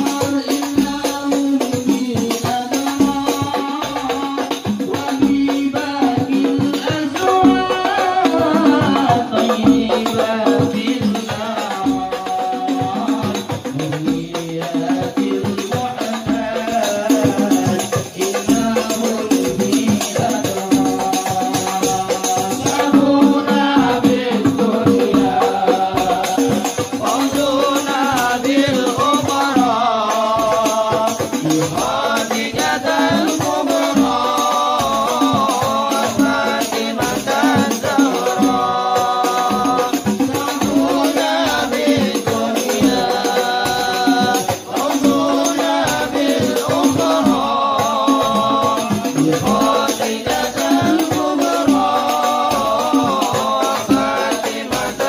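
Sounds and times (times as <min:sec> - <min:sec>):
rhythmic hand clapping: 0:00.0 - 0:55.0
voices singing chanted melody: 0:00.0 - 0:55.0.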